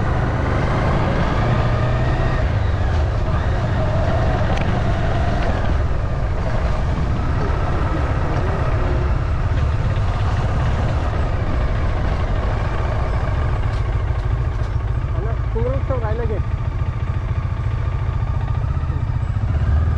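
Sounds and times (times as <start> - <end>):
vehicle rumble on road: 0.0 - 19.9.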